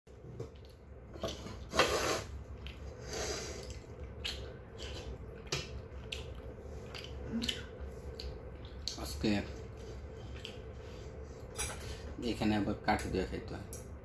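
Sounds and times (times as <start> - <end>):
chewing and slurping: 0.3 - 12.1.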